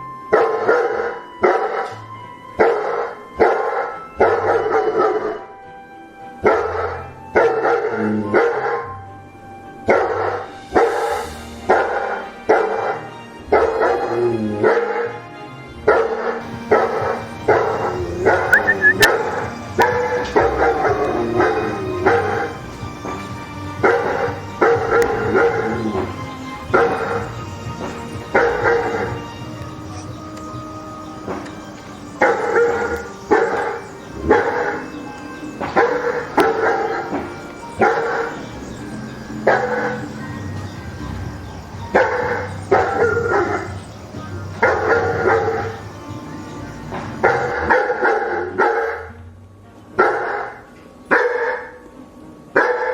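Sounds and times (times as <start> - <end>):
background music: 0.0 - 52.9
dog barking: 0.3 - 2.0, 2.6 - 5.4, 6.4 - 9.0, 9.9 - 15.2, 15.8 - 45.9, 46.8 - 49.2, 50.0 - 51.8, 52.6 - 52.9.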